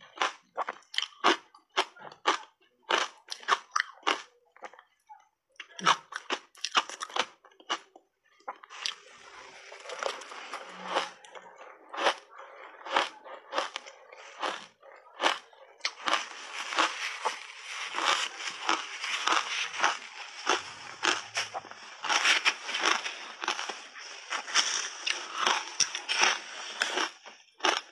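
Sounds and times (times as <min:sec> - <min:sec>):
crunching and chewing ice: 0:00.0 - 0:27.9.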